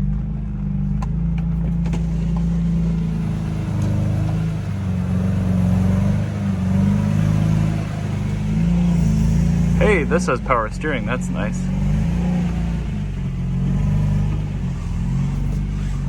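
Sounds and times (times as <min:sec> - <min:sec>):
car engine running at low speed: 0:00.0 - 0:16.0.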